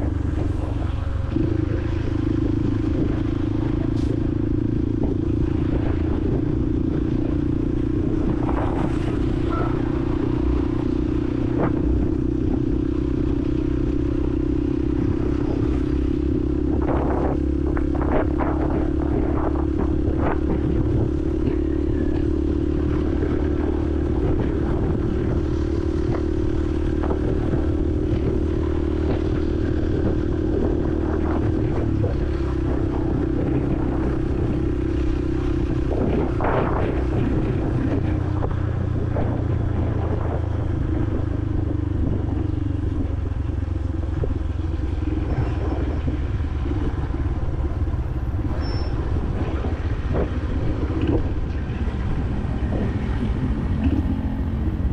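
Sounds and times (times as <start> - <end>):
motorcycle engine running: 0.0 - 54.9
wind and road noise: 0.0 - 54.9.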